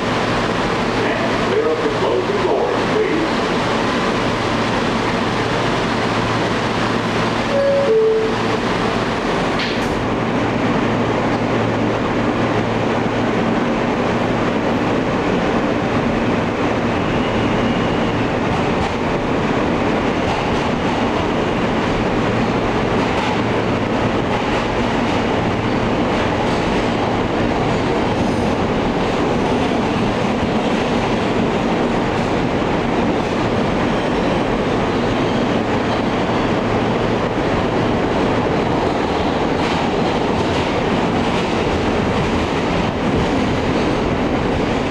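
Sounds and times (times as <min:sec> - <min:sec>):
subway wheels on rail: 0:00.0 - 0:44.9.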